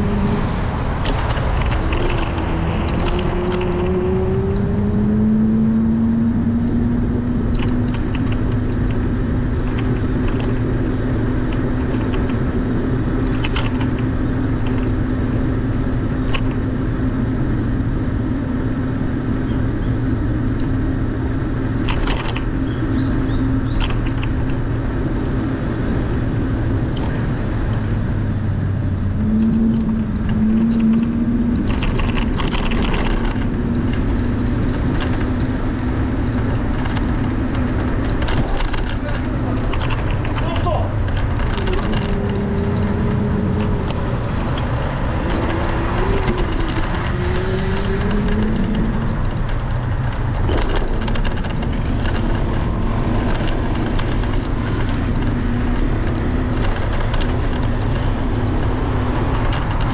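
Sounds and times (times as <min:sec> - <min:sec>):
vehicle hum: 0:00.0 - 0:59.9
vehicle road rumble: 0:00.0 - 0:59.9.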